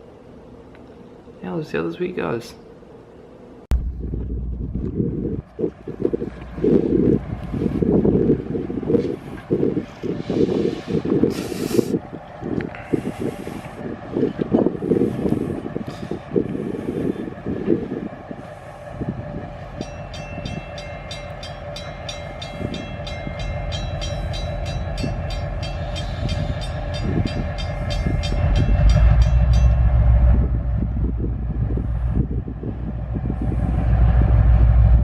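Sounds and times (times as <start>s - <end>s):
train rumbling past: 3.7s - 35.0s.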